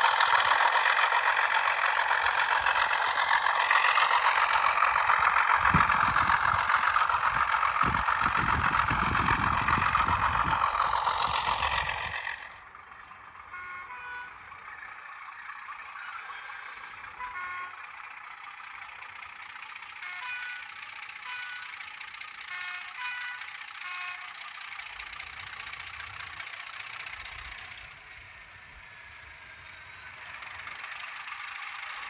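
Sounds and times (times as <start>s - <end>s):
diesel engine sound from small speaker: 0.0s - 32.0s
model train wheels on track: 0.0s - 32.0s.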